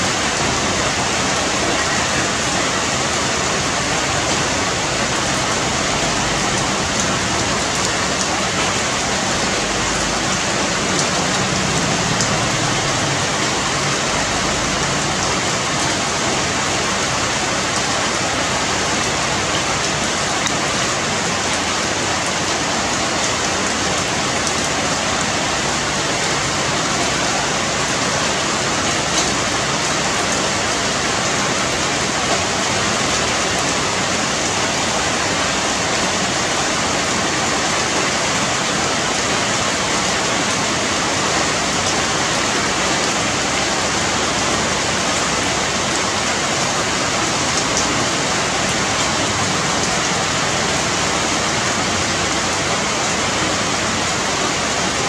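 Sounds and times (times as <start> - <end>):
rain falling through foliage: 0.0 - 55.0.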